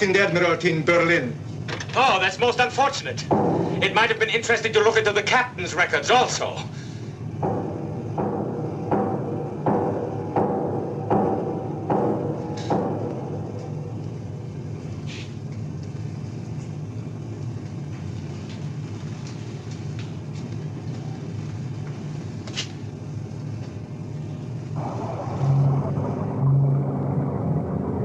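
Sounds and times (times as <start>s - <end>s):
submarine machinery rumble and hum: 0.0s - 28.0s.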